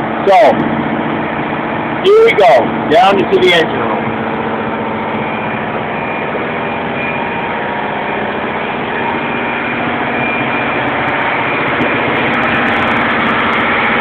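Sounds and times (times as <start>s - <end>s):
engine room machinery droning: 0.0s - 14.0s.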